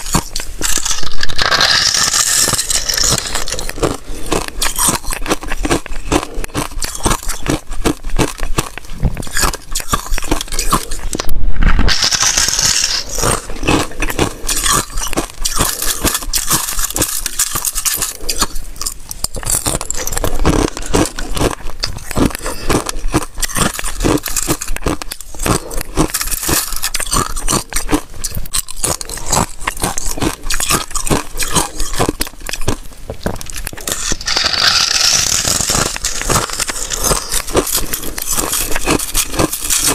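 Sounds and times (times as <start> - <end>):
ice being crunched by teeth: 0.0 - 39.9.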